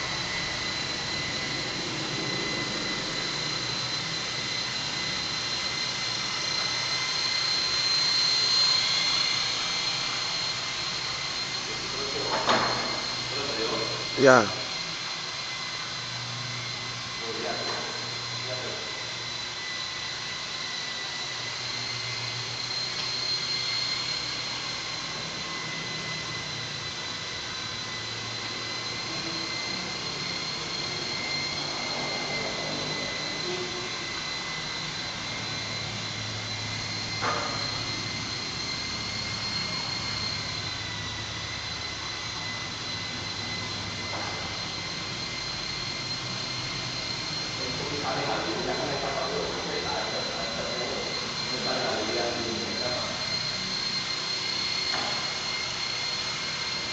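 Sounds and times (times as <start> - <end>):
remote-controlled aircraft motors whining: 0.0 - 56.9.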